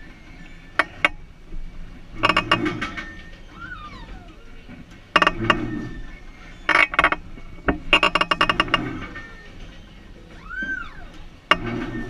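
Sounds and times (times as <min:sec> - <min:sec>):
metallic rattling and clinking of ride: 0:00.0 - 0:03.6, 0:04.2 - 0:12.0.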